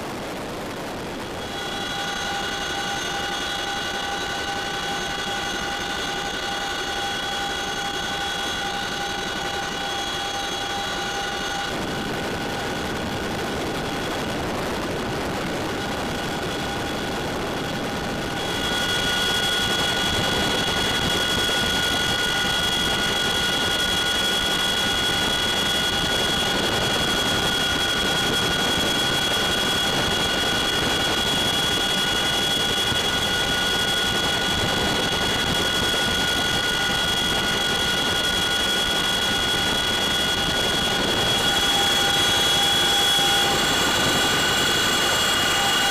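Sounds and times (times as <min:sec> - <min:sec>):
helicopter cabin drone: 0:00.0 - 0:45.9
high turbine whine: 0:00.0 - 0:45.9.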